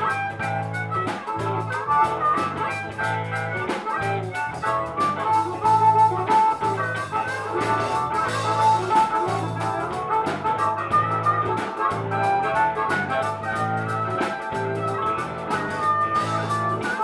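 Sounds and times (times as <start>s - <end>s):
amplified harmonica wailing: 0.0s - 17.0s
blues band playing: 0.0s - 17.0s.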